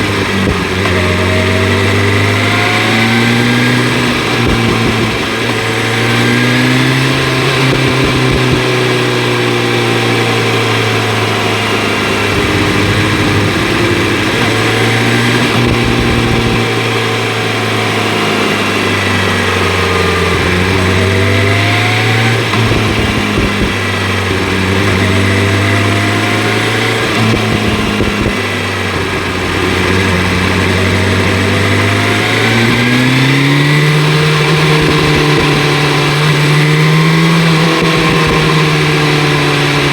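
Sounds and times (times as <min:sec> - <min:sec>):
wind noise rushing: 0:00.0 - 0:08.9, 0:11.9 - 0:16.9, 0:18.8 - 0:39.9
motorcycle engine running: 0:00.0 - 0:39.9.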